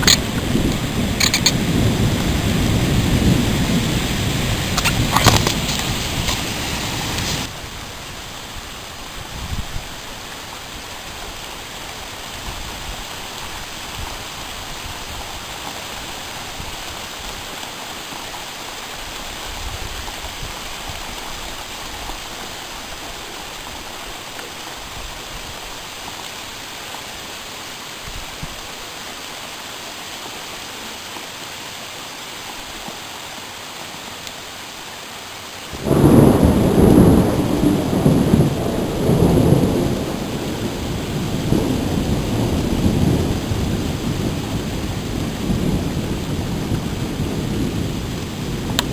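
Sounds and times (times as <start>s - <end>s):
heavy rain hiss: 0.0s - 48.9s.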